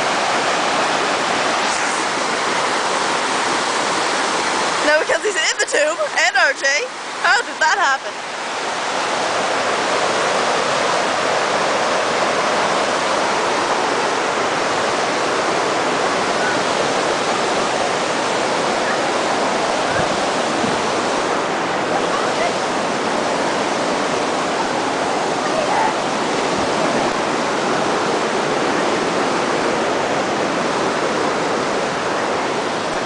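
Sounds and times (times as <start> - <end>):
rush of falling water: 0.0 - 33.0.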